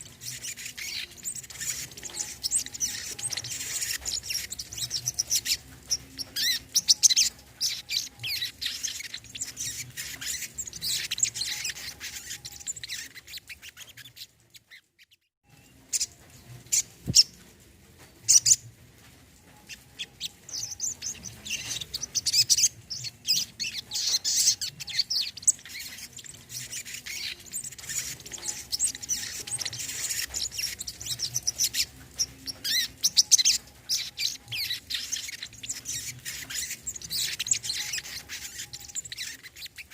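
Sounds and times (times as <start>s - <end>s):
sunbird singing high chirps: 0.0s - 14.8s, 19.6s - 39.9s.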